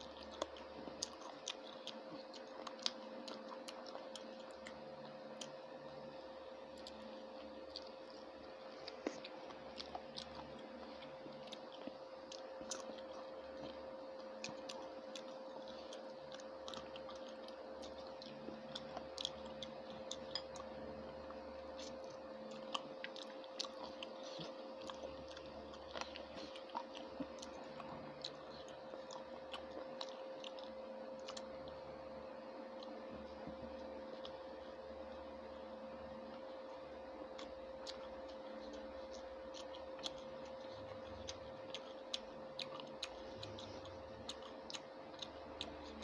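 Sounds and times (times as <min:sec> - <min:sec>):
person chewing with clicks: 0:00.0 - 0:05.7, 0:06.7 - 0:31.9, 0:32.7 - 0:34.7, 0:36.2 - 0:46.0
steady background hum: 0:00.0 - 0:46.0.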